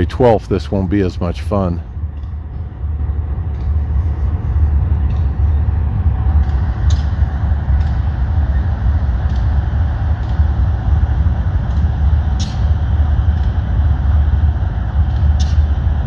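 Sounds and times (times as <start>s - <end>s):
locomotive engines rumbling: 0.0s - 16.0s
wheels clicking on rails: 0.0s - 16.0s.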